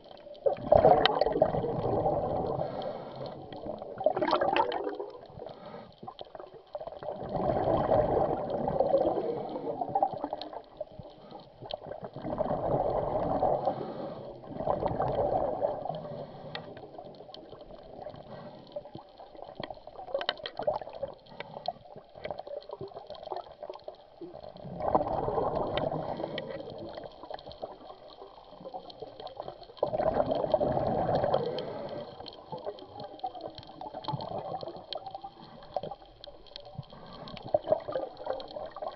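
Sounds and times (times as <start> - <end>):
underwater gurgling bubbles: 0.0 - 38.9.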